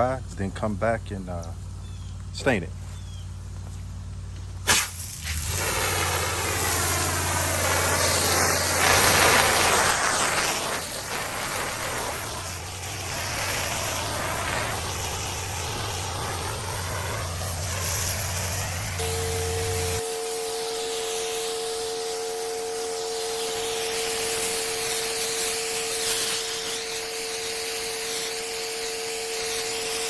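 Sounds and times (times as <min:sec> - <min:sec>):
water spray hissing: 0:04.7 - 0:30.0
pressure washer engine running: 0:05.0 - 0:30.0.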